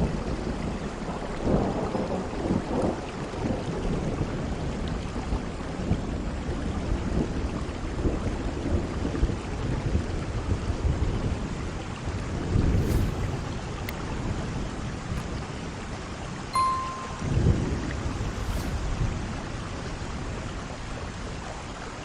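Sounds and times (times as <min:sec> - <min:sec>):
heavy rain: 0:00.0 - 0:16.5, 0:17.3 - 0:22.0.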